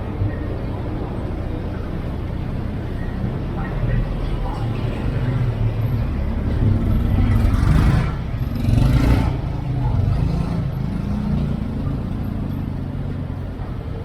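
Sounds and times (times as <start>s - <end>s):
street traffic: 0.0s - 14.0s
vehicle engine humming: 0.0s - 14.0s.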